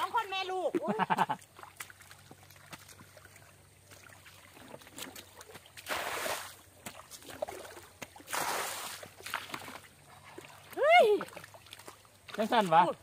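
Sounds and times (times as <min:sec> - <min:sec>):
faint water trickling: 0:00.0 - 0:13.0
water sloshing swishes: 0:00.0 - 0:13.0.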